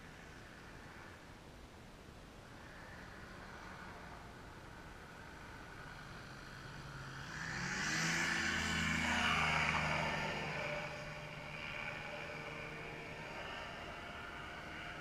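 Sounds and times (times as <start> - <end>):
ultralight aircraft flying past: 2.4 - 15.0.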